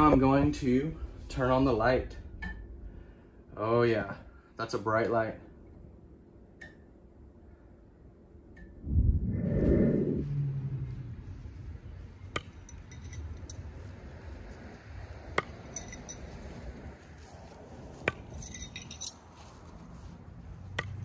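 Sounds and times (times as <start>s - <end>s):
low steady background noise: 0.0s - 21.0s.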